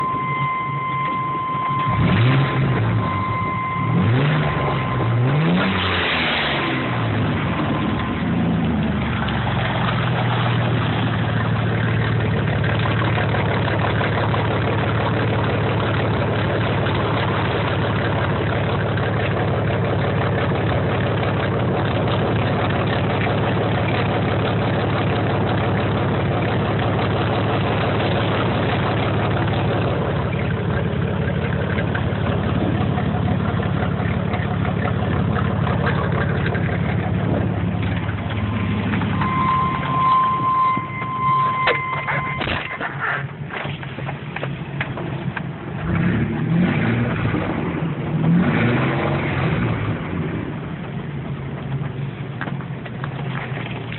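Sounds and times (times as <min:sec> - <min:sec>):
car engine idling loudly: 0:00.0 - 0:53.9.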